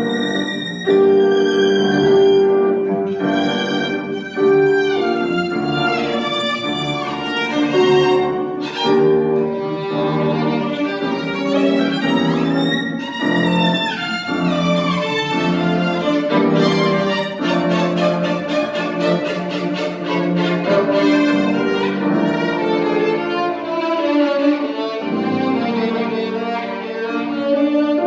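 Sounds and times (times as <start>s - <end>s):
violin melody: 0.0s - 28.0s.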